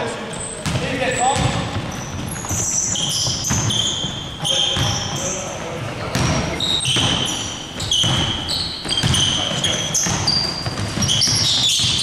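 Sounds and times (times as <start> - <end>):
sneaker squeaks: 0.2 - 12.0
basketball bouncing: 0.6 - 12.0.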